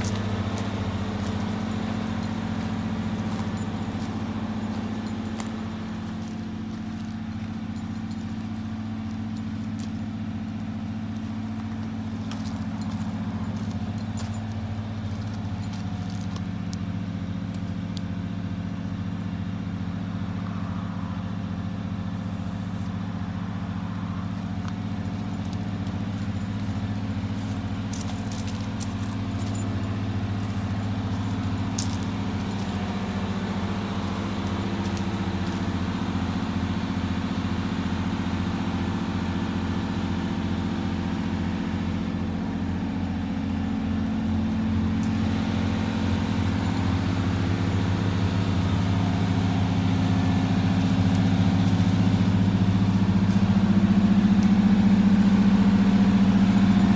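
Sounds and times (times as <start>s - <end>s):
bus engine idling: 0.0s - 56.9s.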